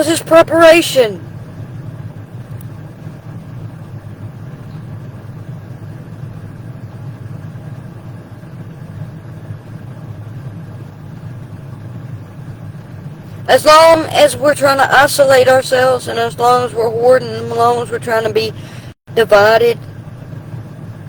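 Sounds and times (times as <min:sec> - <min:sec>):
faint even hum: 0:00.0 - 0:21.0
steady low rumble: 0:00.0 - 0:21.0.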